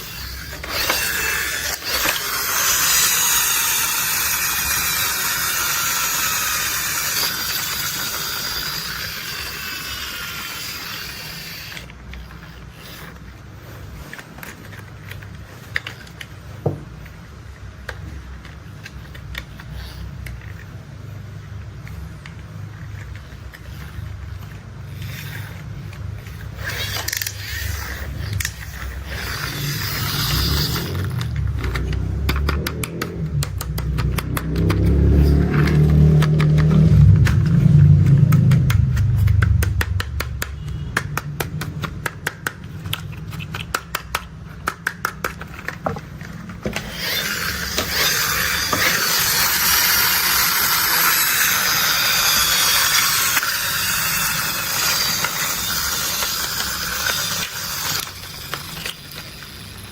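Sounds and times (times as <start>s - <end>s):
rapid ratchet-like clicks: 0.0s - 16.4s, 21.8s - 59.9s.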